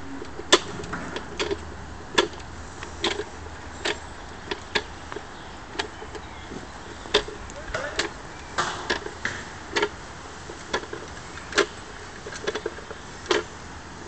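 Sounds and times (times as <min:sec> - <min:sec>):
hand winch clicking: 0:00.0 - 0:13.6.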